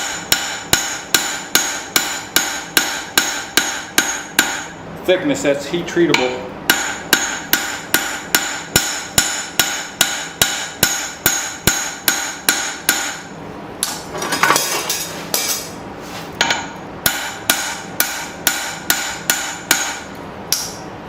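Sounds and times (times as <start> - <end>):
hammer striking hot steel on anvil: 0.0 - 4.8, 6.1 - 14.0, 16.4 - 20.8.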